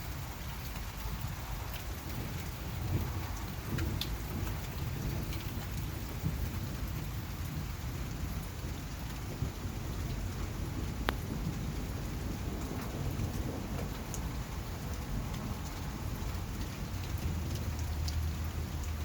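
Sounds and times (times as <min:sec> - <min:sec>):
steady rain: 0:00.0 - 0:19.0
raindrop tick: 0:00.1 - 0:19.0
thunder rumbling: 0:02.1 - 0:19.0.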